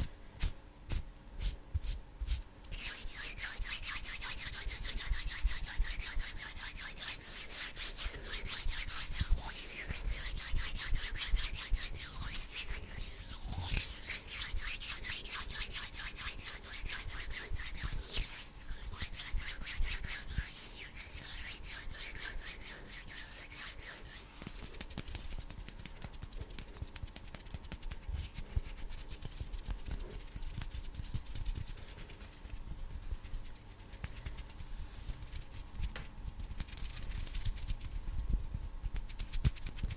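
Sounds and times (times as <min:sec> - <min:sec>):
hands rubbing together: 0:00.0 - 0:39.9.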